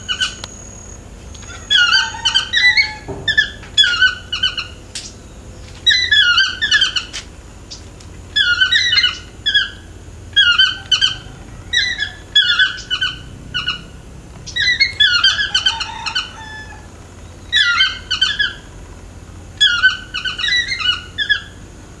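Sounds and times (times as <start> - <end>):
toucan yelping calls: 0.0 - 21.8.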